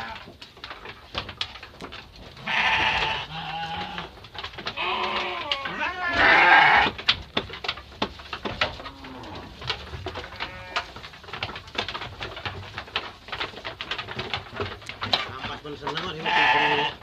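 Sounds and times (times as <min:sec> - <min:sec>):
grass rustling: 0:00.0 - 0:17.0
sheep chewing clicks and knocks: 0:00.0 - 0:17.0.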